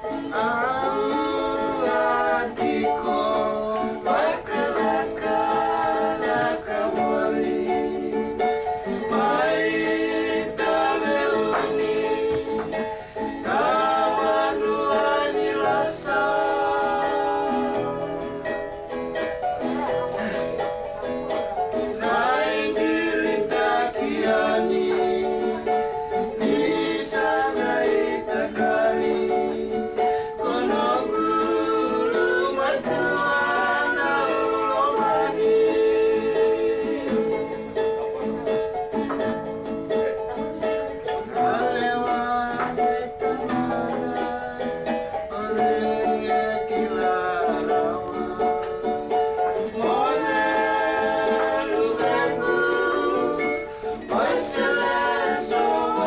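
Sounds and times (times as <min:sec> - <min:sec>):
acoustic guitar strumming: 0:00.0 - 0:56.0
ukulele strumming: 0:00.0 - 0:56.0
voices singing along: 0:00.0 - 0:56.0.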